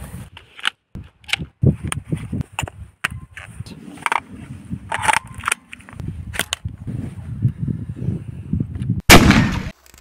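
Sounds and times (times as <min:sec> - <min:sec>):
wind rumbling on microphone: 0:01.0 - 0:09.7.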